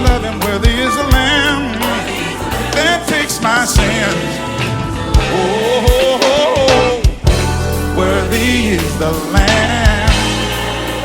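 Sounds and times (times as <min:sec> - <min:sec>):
band with bass: 0:00.0 - 0:11.0
person singing: 0:00.0 - 0:11.0.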